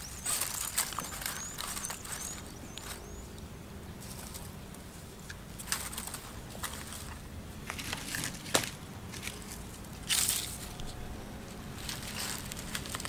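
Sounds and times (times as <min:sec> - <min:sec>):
dry tinder rustling: 0:00.0 - 0:03.3, 0:04.0 - 0:13.0.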